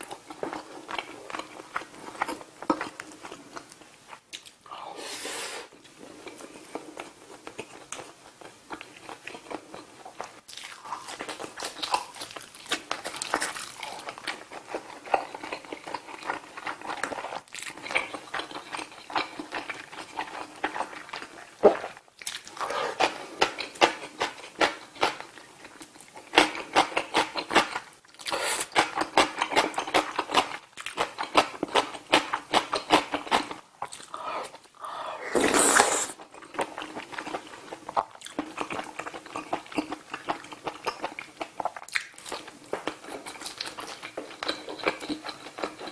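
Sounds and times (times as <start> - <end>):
close chewing: 0.0 - 4.6, 5.8 - 45.9.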